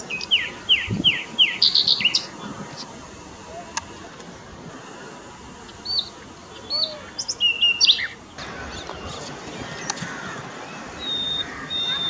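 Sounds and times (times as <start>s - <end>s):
small birds chirping: 0.0s - 2.9s, 4.8s - 12.0s
steady outdoor hiss: 0.0s - 12.0s.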